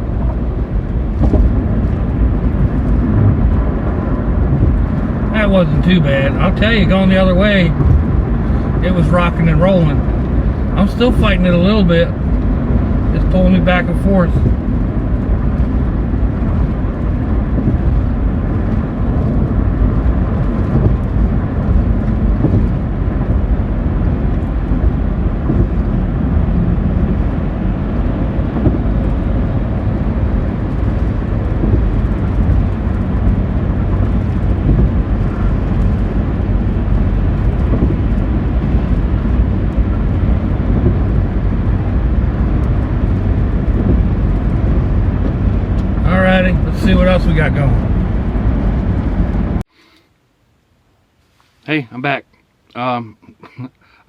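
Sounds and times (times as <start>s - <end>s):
wind gusting around car: 0.0s - 49.7s
road and engine rumble: 0.0s - 54.0s.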